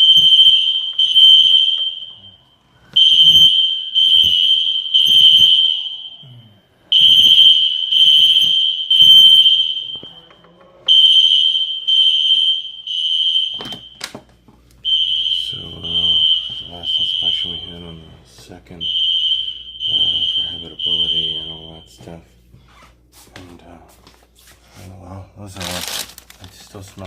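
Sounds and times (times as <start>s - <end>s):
fire alarm beeping: 0.0s - 22.3s.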